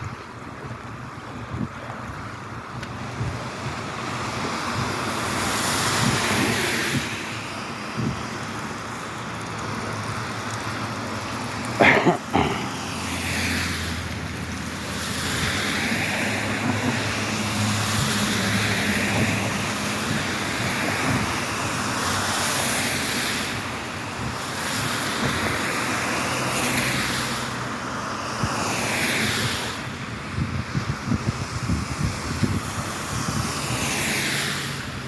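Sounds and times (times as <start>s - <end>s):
vehicle engine and road hum: 0.0s - 35.0s
tyres hissing on wet pavement: 0.3s - 35.0s.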